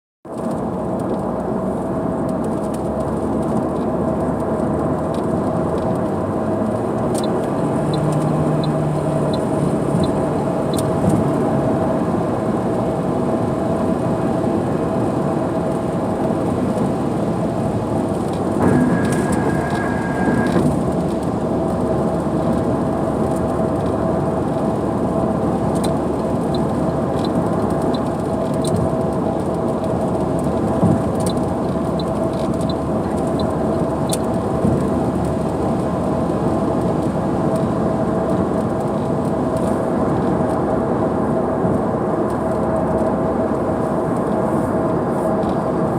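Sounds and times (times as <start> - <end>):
car road noise: 0.3 - 45.9
heavy rain: 0.6 - 41.9.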